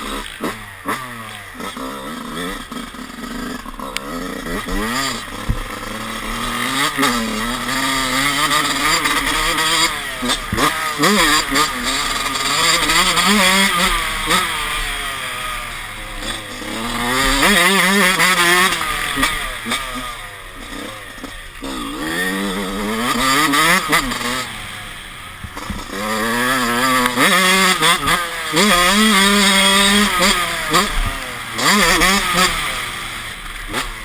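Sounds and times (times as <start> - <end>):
two-stroke motocross engine revving: 0.0 - 34.0.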